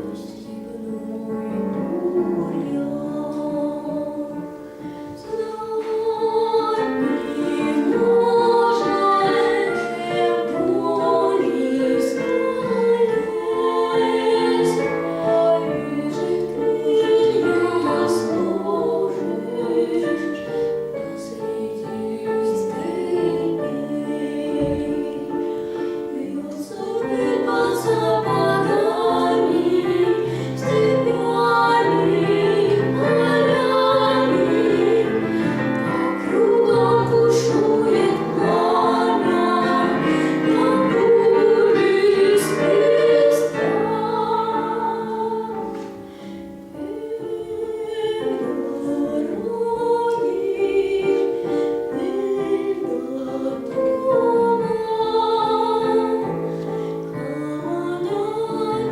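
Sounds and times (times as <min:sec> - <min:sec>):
vocal duet singing: 0:00.0 - 0:58.9.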